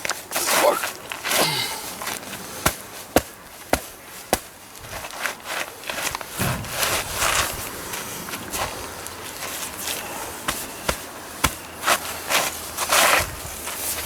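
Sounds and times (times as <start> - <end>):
crackling and crunching underfoot: 0.0 - 14.0.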